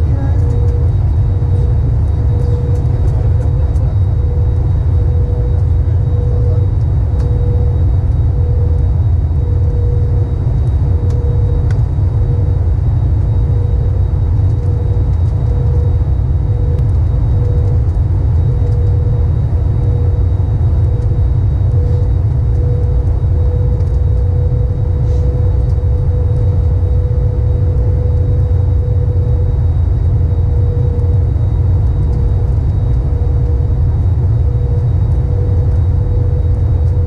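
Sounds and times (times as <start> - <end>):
constant hum: 0.0 - 37.0
engine and airflow rumble: 0.0 - 37.0.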